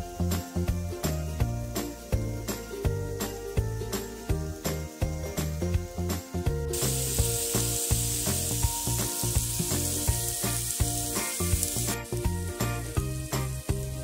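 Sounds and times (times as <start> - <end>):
background music with steady beat: 0.0 - 14.0
meat sizzling on a griddle: 0.0 - 14.0.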